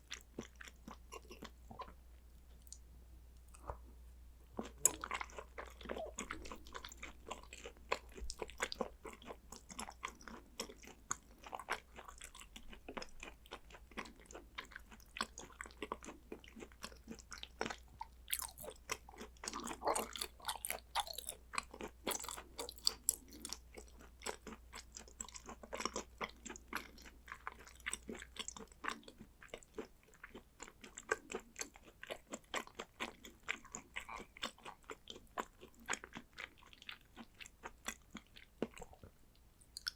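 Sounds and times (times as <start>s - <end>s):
wet chewing mouth sounds: 0.0s - 2.8s, 3.5s - 3.9s, 4.5s - 39.9s.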